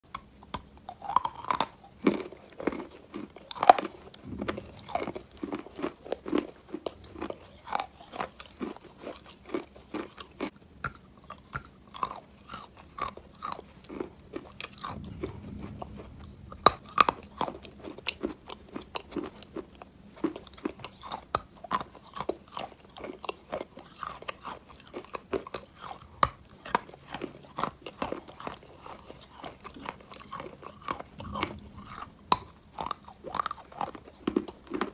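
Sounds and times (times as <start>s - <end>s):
crunching and chewing chalk: 0.0s - 34.9s.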